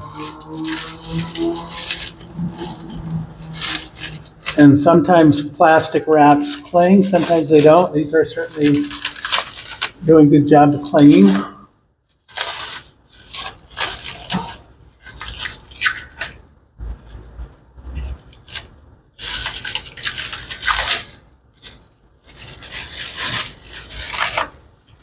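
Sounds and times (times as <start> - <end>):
plastic wrap crinkling: 0.0 - 25.0.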